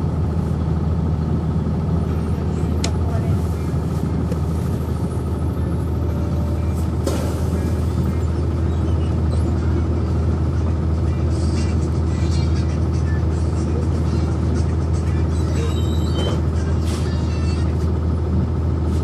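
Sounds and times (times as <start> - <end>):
bus diesel engine running: 0.0 - 19.0
bus interior clicks and rattles: 0.0 - 19.0.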